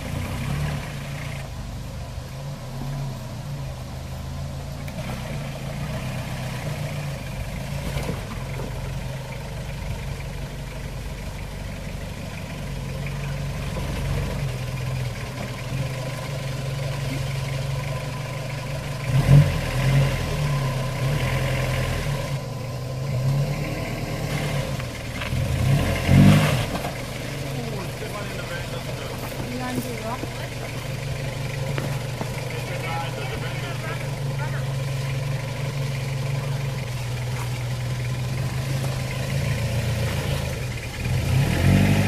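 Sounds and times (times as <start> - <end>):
engine running at low revs: 0.0 - 42.0.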